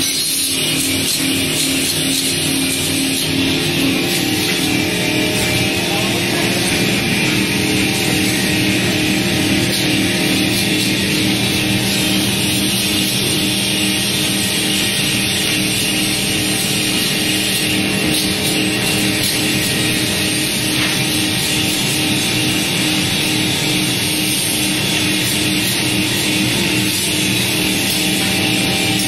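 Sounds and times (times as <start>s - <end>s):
machinery humming and hissing: 0.0s - 29.0s.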